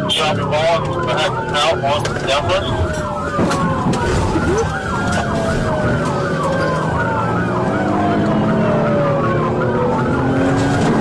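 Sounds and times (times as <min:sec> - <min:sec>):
siren wailing: 0:00.0 - 0:11.0
siren yelping: 0:00.0 - 0:11.0
vehicle engine and road noise: 0:00.0 - 0:11.0.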